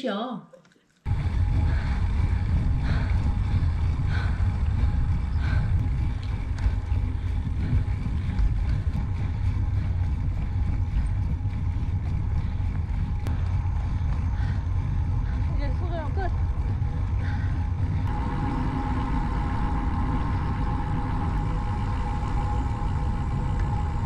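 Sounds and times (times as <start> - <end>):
wind rushing over microphone: 1.1 - 24.0.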